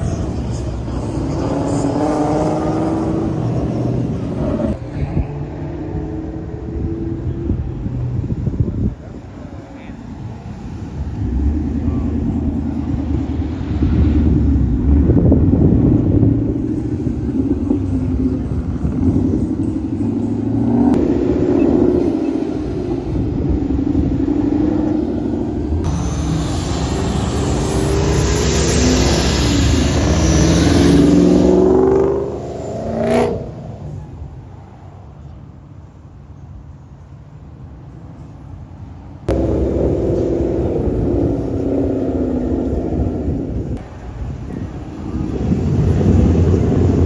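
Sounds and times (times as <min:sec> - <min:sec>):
engine accelerating hard with hiss: 0:00.0 - 0:04.8, 0:06.8 - 0:34.5, 0:39.3 - 0:47.0
car engines rumbling and revving: 0:00.0 - 0:47.0.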